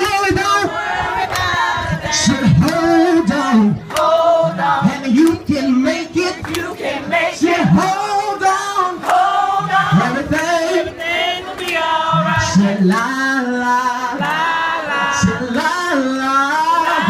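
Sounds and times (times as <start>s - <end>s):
crowd singing a gospel song: 0.0s - 17.0s.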